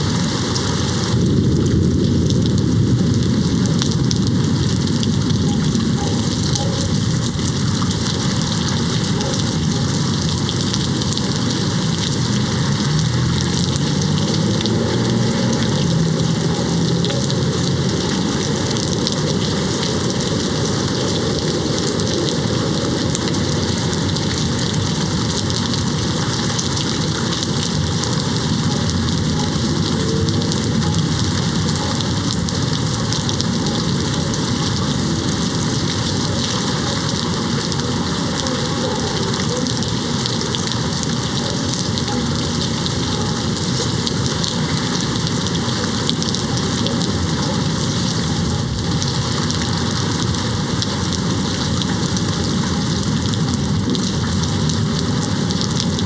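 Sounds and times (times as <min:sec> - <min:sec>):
rain hitting a window: 0:00.0 - 0:56.0.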